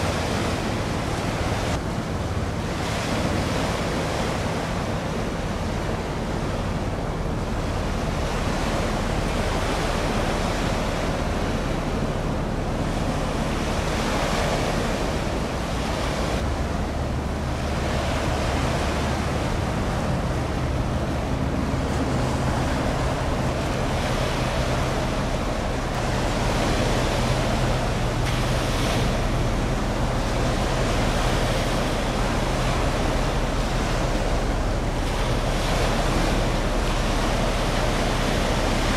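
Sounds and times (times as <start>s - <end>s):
sea water washing: 0.0s - 38.9s
ship engines humming: 0.0s - 38.9s
wind on microphone: 0.0s - 38.9s.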